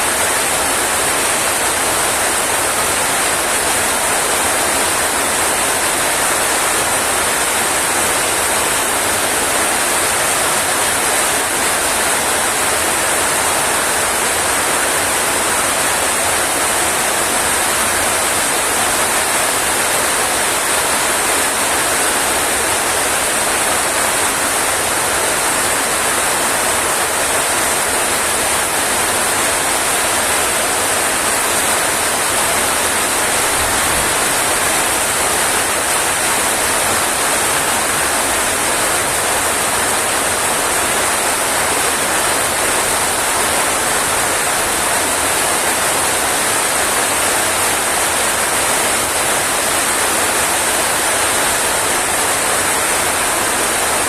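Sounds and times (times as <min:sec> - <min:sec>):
rain falling steadily: 0:00.0 - 0:54.0.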